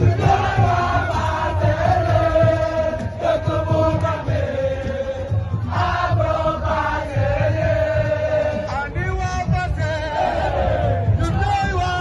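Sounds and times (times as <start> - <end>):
voices chanting: 0.0 - 9.0, 9.6 - 11.3
music with low beat: 0.0 - 12.0.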